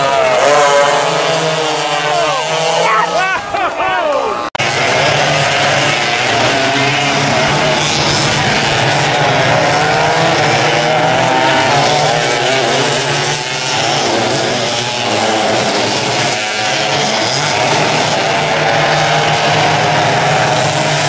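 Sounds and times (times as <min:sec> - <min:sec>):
racing karts buzzing at high revs: 0:00.0 - 0:03.6, 0:04.4 - 0:21.0.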